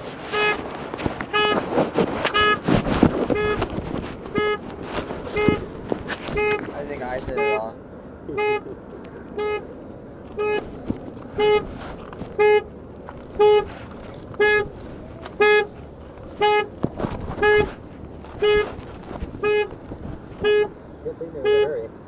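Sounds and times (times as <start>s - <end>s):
car horn honking: 0.2s - 22.0s.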